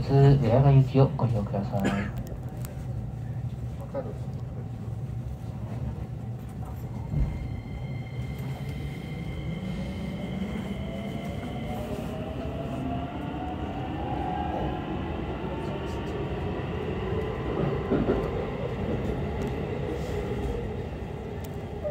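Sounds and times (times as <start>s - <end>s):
train wheels rumbling on rails: 2.3s - 21.9s.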